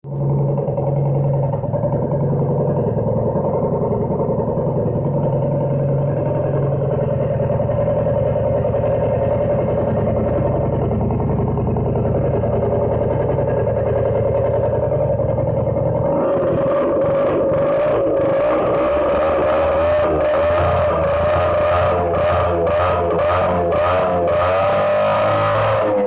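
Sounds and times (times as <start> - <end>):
two-stroke scooter engine running: 0.1 - 26.0.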